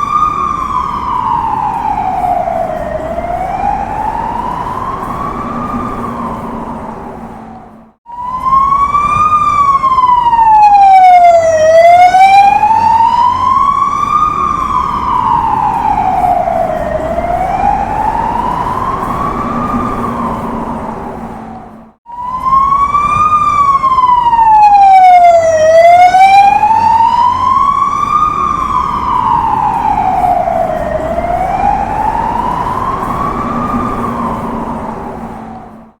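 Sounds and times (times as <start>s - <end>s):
low street noise: 0.0s - 36.0s
police siren wailing: 0.0s - 36.0s.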